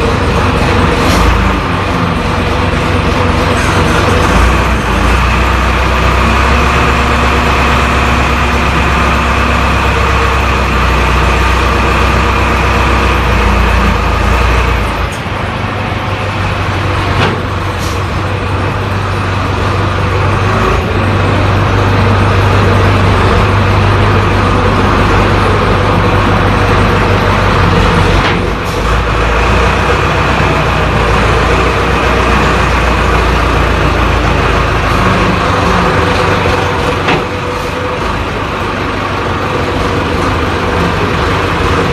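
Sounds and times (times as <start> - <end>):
wheel loader diesel engine: 0.0 - 41.9.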